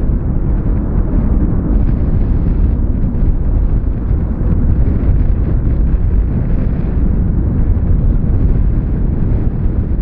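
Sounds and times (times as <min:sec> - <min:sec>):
jet engines deep rumble: 0:00.0 - 0:10.0.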